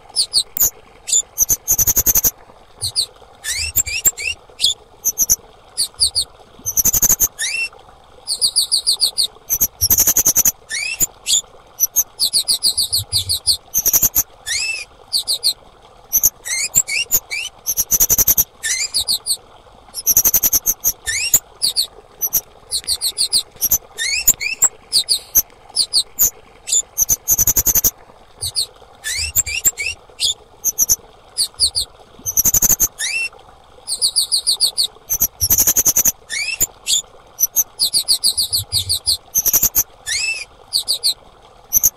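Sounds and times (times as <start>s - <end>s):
bird chirping and whistling: 0.2s - 7.7s, 8.3s - 19.4s, 20.0s - 33.3s, 33.9s - 41.9s.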